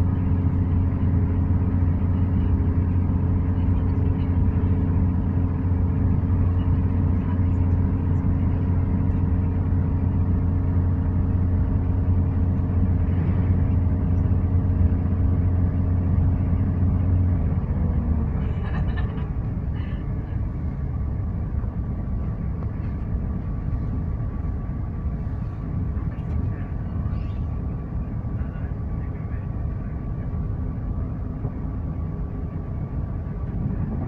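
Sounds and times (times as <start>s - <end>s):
rumble of moving train: 0.0s - 34.0s
train engine drone: 0.0s - 34.0s.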